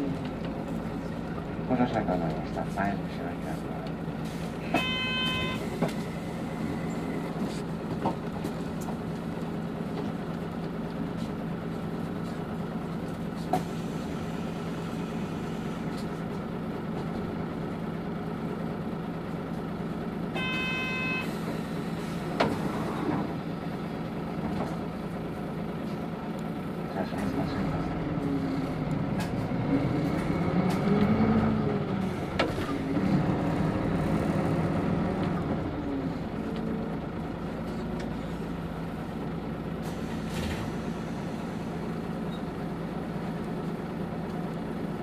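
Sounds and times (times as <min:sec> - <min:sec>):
bus drivetrain hum: 0:00.0 - 0:45.0.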